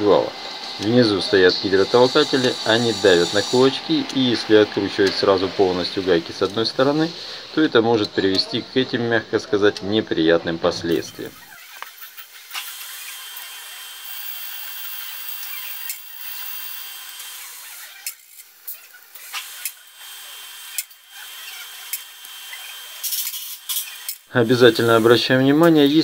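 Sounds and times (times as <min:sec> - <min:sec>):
scratchy metallic wrench noise: 0:00.0 - 0:07.2, 0:10.9 - 0:26.0.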